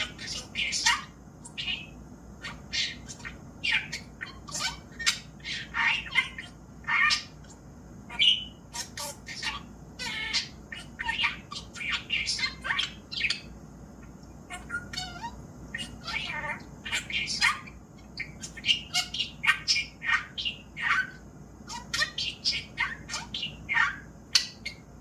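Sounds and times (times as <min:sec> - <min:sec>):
budgerigar chattering: 0:00.0 - 0:13.5, 0:14.5 - 0:24.8.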